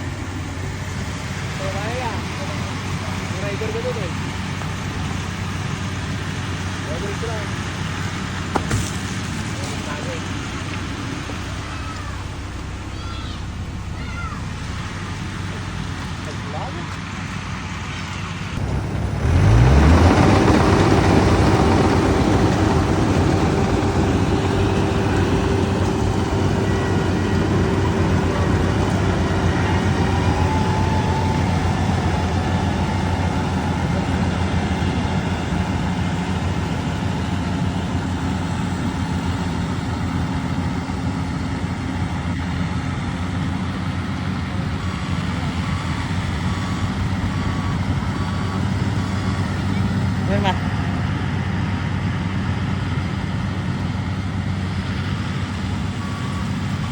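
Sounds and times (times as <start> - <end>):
harvester engine revving: 0.0 - 56.9.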